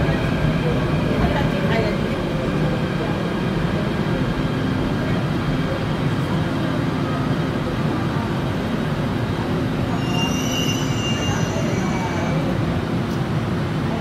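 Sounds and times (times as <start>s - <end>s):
subway train rumbling past: 0.0s - 14.0s.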